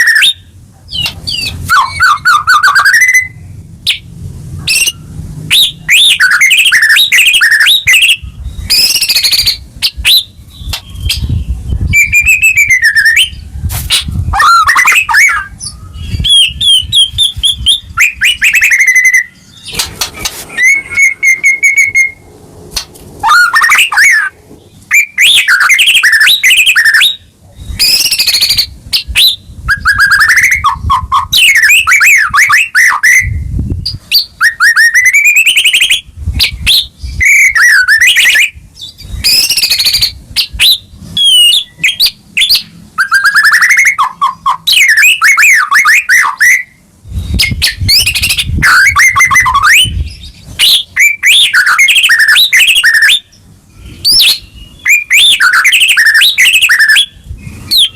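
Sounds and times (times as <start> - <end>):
songbird singing varied phrases: 0.0 - 13.5, 14.2 - 22.3, 23.2 - 57.9.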